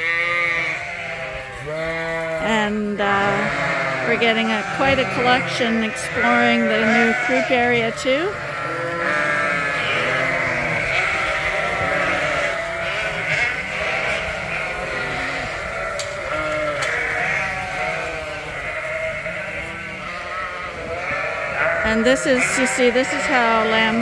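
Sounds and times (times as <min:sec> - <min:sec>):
sheep and lambs bleating: 0:00.0 - 0:24.0.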